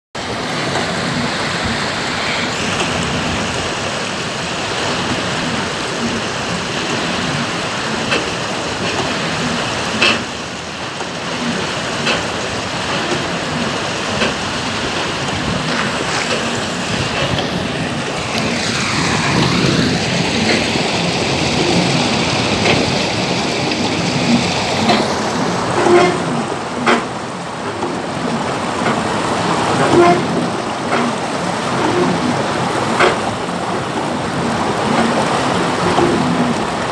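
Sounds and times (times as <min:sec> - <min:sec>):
water rushing around a hull: 0:00.1 - 0:36.9.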